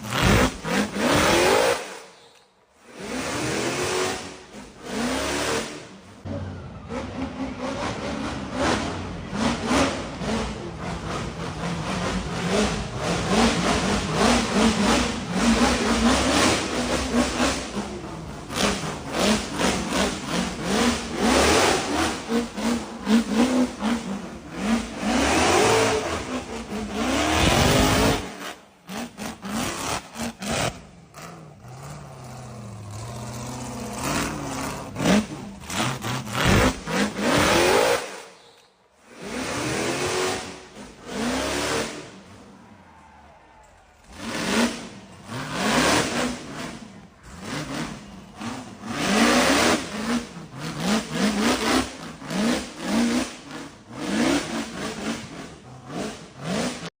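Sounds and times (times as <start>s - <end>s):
buggy engine revving: 0.0s - 2.1s, 2.8s - 38.3s, 38.9s - 43.3s, 44.0s - 56.9s.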